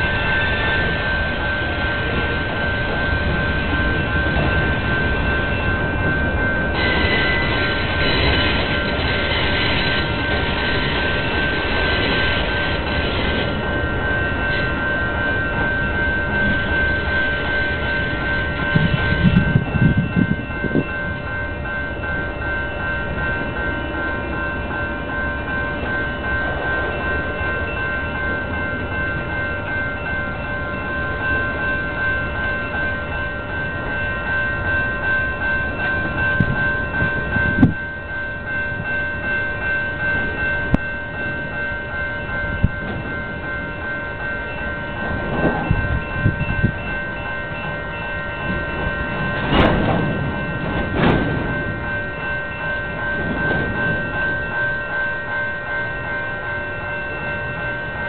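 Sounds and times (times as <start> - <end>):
freight train rolling past: 0.0 - 58.0
high-pitched ringing tones: 0.0 - 58.0
train clunks: 0.0 - 58.0.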